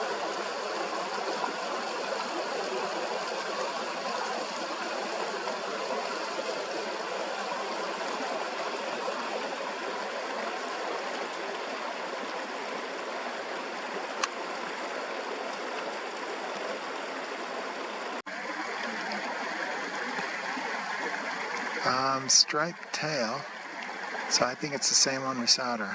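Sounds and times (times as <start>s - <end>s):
fast-flowing creek rushing: 0.0s - 25.9s.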